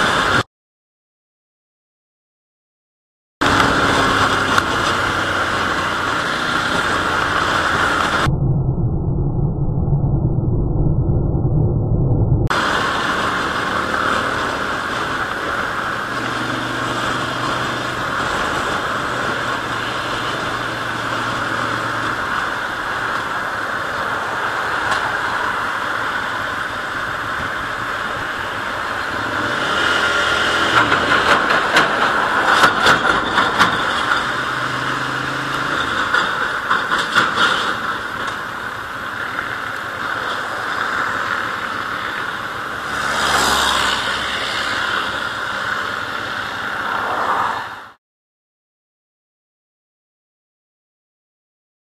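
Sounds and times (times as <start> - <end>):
wind and road noise: 0.0 - 0.4, 3.4 - 48.0.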